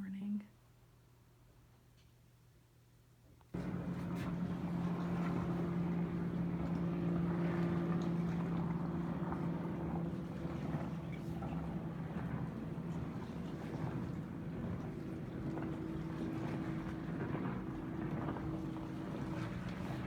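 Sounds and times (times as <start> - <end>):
motor humming: 3.6 - 20.0.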